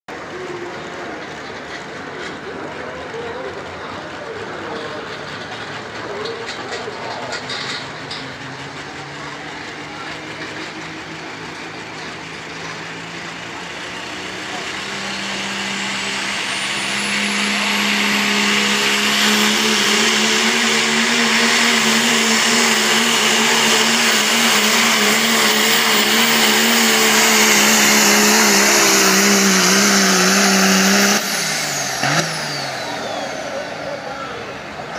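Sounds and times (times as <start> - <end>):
diesel truck engine at full throttle: 0.1 - 34.9.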